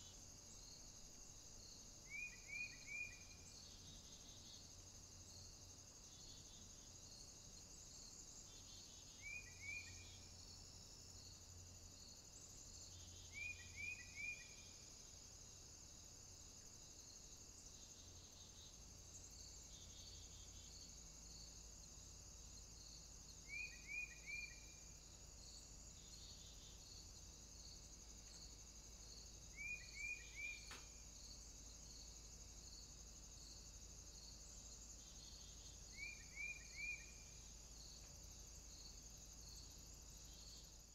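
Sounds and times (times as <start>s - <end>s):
faint insect trill: 0.0s - 40.9s
insect chirps: 0.0s - 40.9s.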